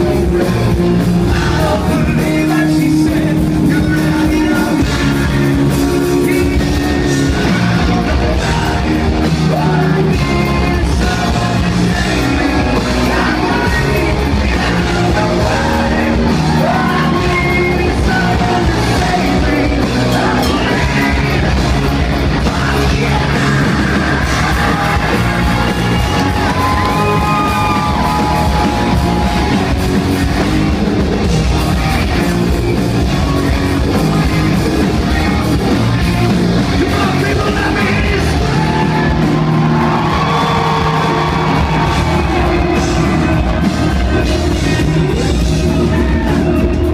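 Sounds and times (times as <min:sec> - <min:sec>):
singer singing into a microphone: 0:00.0 - 0:29.6, 0:36.6 - 0:46.9
rock band playing loud: 0:00.0 - 0:46.9.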